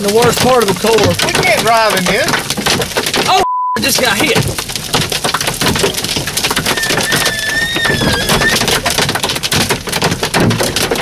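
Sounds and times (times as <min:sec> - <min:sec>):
hailstones pounding on a truck: 0:00.0 - 0:11.0.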